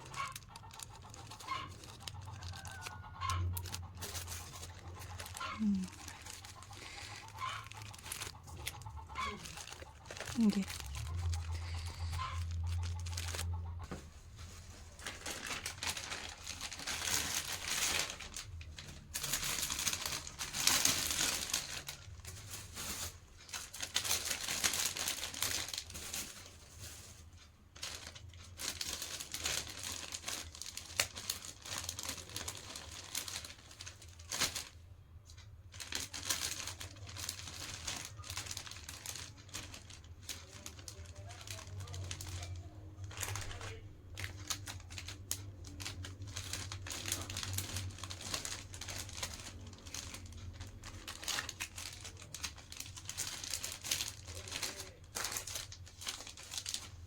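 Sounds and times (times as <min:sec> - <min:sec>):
plastic packets crinkling: 0:00.0 - 0:57.0.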